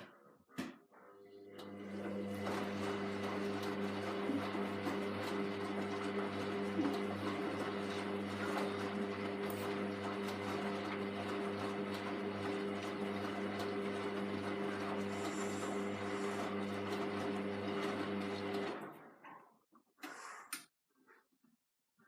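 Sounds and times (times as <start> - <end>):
washing machine running: 1.1 - 19.2.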